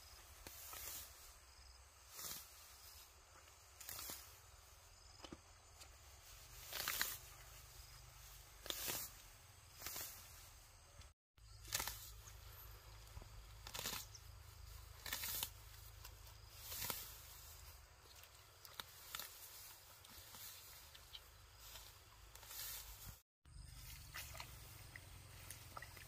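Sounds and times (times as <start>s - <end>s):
grass being torn up: 0.0s - 23.2s.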